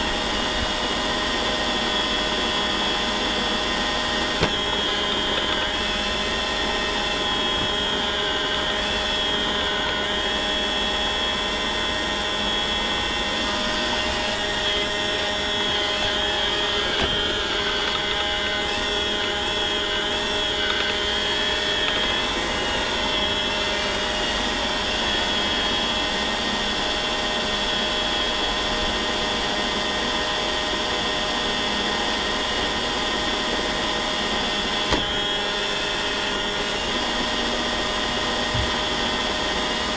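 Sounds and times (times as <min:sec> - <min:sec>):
robot vacuum whine: 0:00.0 - 0:39.9.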